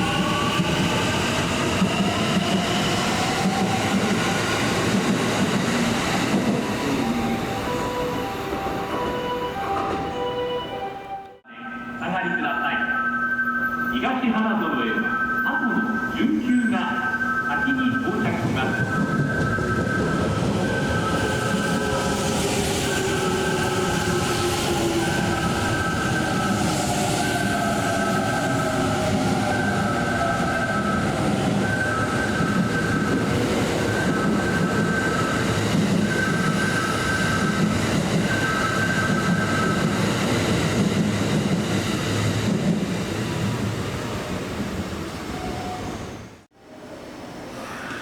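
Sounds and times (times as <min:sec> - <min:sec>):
train rumble and wheel noise: 0:00.0 - 0:48.0.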